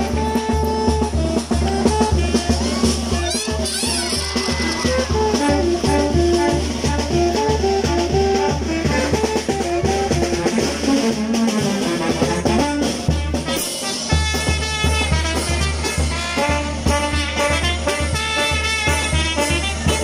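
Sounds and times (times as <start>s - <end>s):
brass band music with drums: 0.0s - 20.0s.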